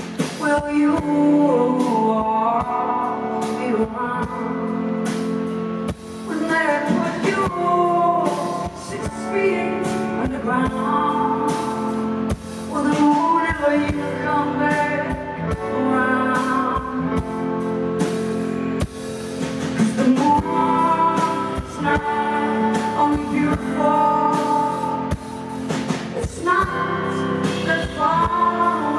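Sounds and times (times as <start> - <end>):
live rock band playing: 0.0 - 28.9.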